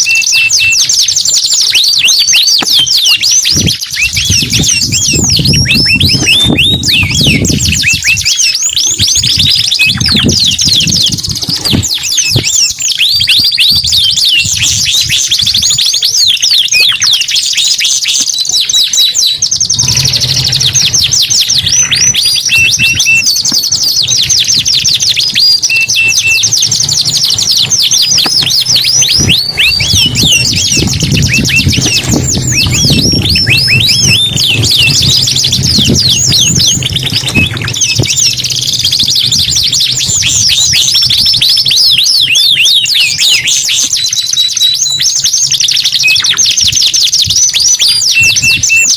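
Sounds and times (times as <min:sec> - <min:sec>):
canary song trills: 0:00.0 - 0:48.9.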